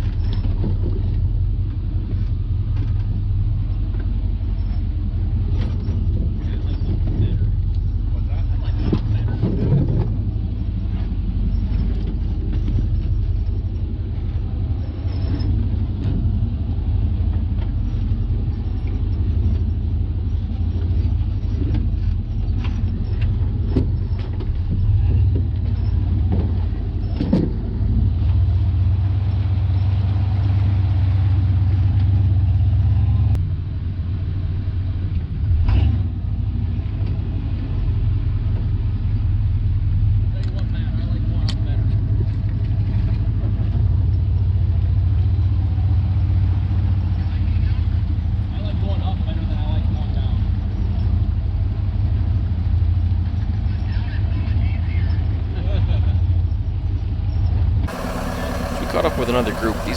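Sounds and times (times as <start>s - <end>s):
engine running at low revs: 0.0s - 53.7s, 56.4s - 59.9s.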